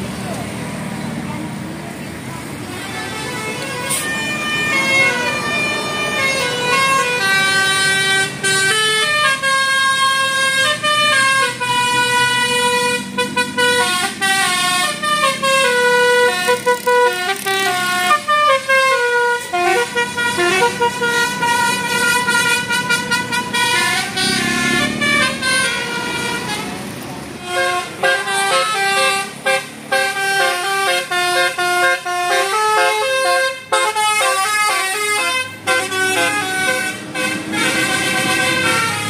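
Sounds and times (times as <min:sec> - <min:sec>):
musical bus air horn tune: 0:02.6 - 0:39.0.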